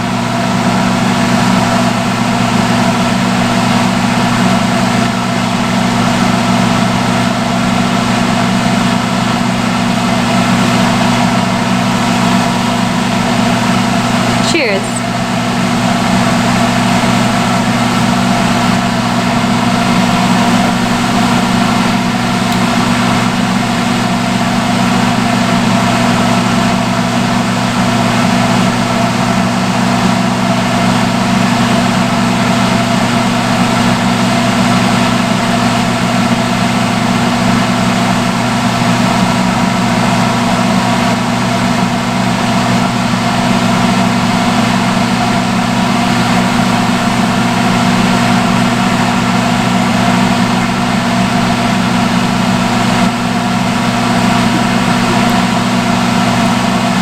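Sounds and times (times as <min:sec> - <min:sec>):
low motor hum: 0:00.0 - 0:57.0
hair dryer blowing air: 0:01.6 - 0:40.8, 0:41.5 - 0:57.0.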